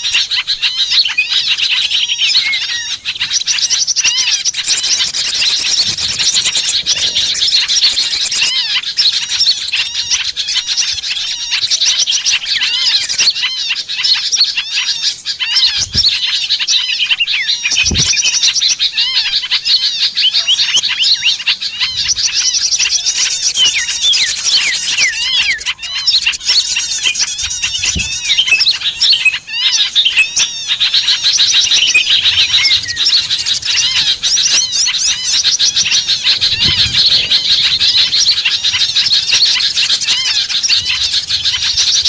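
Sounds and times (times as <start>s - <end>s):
small birds chirping and trilling: 0.0s - 42.0s.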